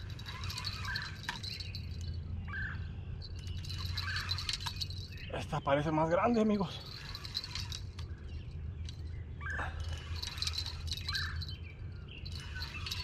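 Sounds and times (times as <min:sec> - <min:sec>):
steady low hum: 0:00.0 - 0:13.0
high bird twittering: 0:00.2 - 0:13.0.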